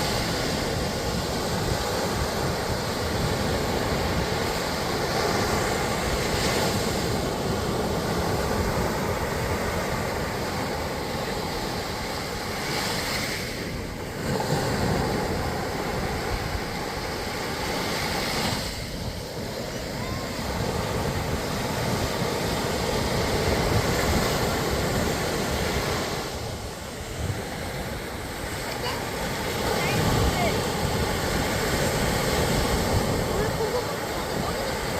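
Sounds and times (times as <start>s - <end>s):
sea surf breaking on beach: 0.0s - 34.9s.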